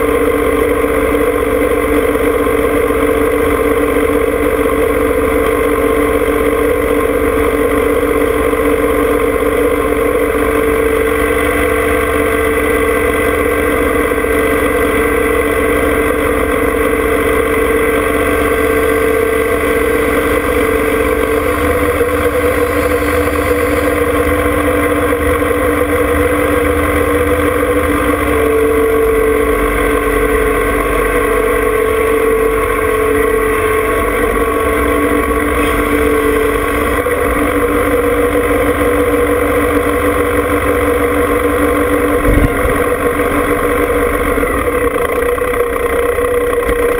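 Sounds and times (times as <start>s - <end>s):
diesel tractor engine idling: 0.0s - 46.9s.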